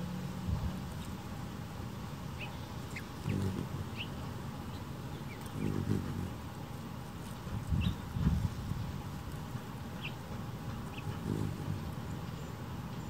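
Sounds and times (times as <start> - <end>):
hummingbird wings humming: 0.0 - 13.0.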